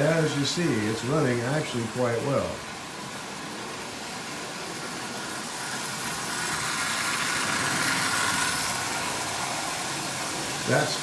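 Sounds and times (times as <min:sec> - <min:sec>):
toy train motor whirring: 0:00.0 - 0:11.0
wheels rolling on track: 0:00.0 - 0:11.0.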